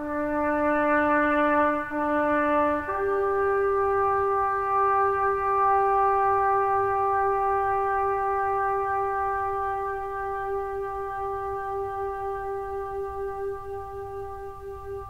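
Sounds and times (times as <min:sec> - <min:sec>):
brass instrument long note: 0:00.0 - 0:15.0.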